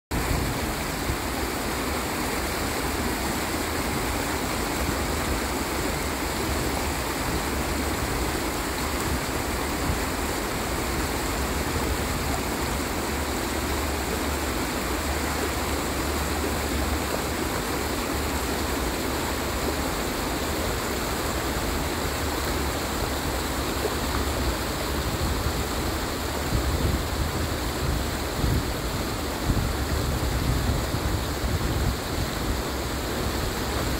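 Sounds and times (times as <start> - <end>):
stream rushing over riffles: 0.1 - 33.9.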